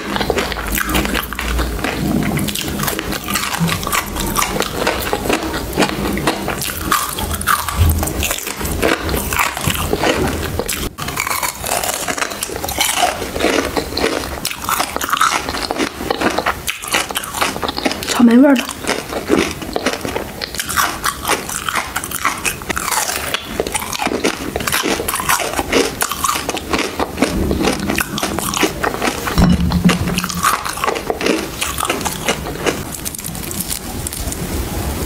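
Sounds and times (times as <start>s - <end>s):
chewing sweets: 0.0s - 34.4s.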